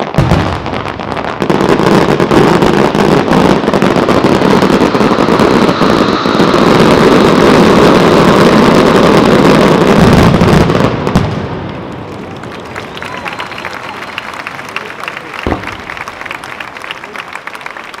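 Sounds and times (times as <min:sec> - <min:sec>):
firework shells bursting and crackling: 0:00.0 - 0:18.0.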